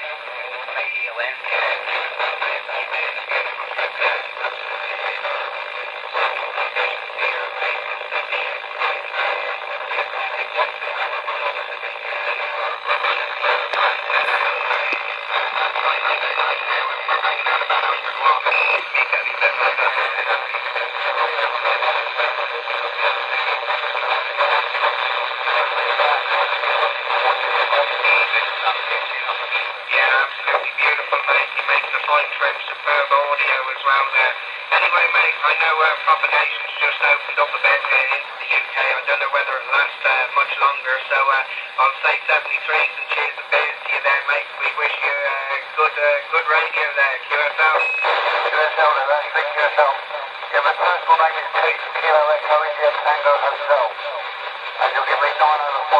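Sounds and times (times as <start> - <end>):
tinny hissy radio signal: 0.0 - 55.9
unclear voice over radio: 0.0 - 55.9.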